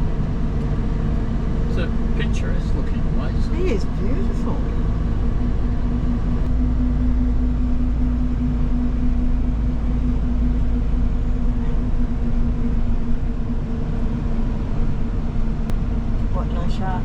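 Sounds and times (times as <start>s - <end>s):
vehicle cabin engine rumble: 0.0s - 17.0s.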